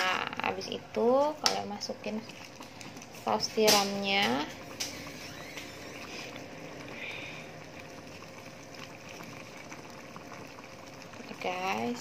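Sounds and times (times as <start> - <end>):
stew bubbling in a wok: 0.0 - 12.0.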